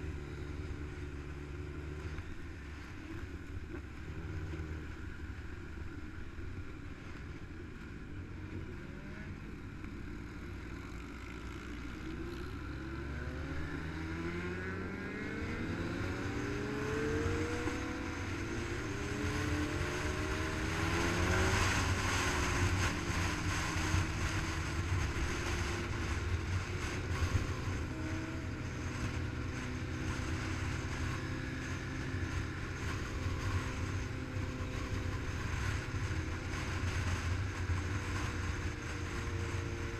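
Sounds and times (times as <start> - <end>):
motorcycle engines accelerating: 0.0 - 39.9.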